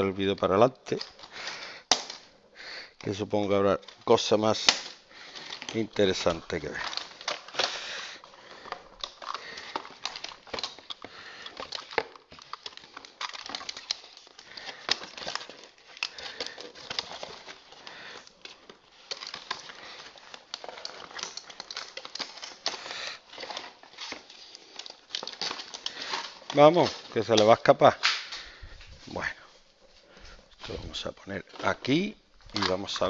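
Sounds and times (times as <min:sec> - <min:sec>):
packaging rustling and crackling: 0:00.0 - 0:33.0.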